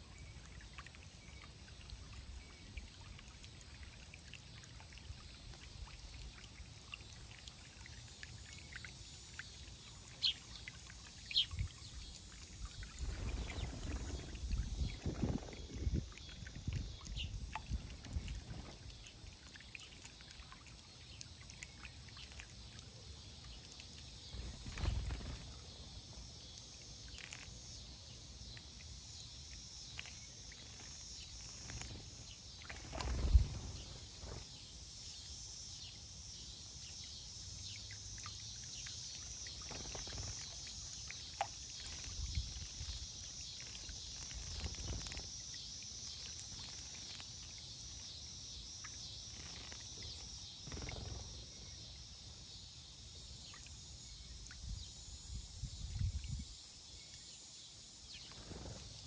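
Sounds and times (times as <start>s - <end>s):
high insect drone: 4.6s - 59.0s.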